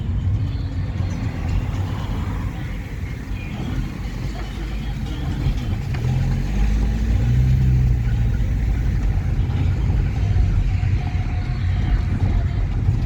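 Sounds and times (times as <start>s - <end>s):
vehicle low rumble: 0.0s - 13.0s.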